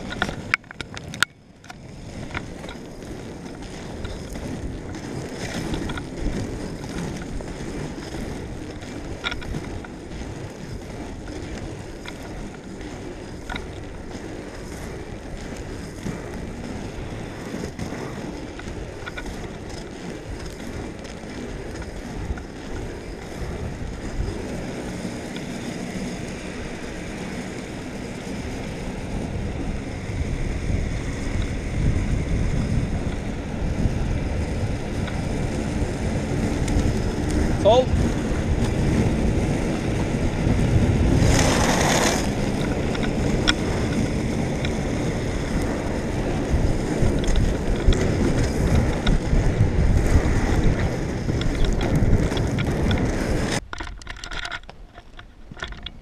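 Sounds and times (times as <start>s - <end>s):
inline skate wheels rolling on asphalt: 0.0s - 56.0s
wind buffeting microphone: 0.0s - 56.0s.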